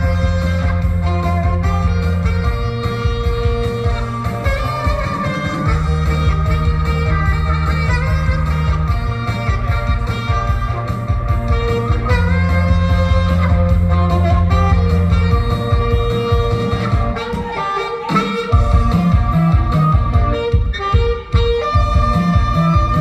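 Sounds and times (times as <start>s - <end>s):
band accompaniment with bass: 0.0s - 23.0s
saxophone melody: 0.0s - 23.0s.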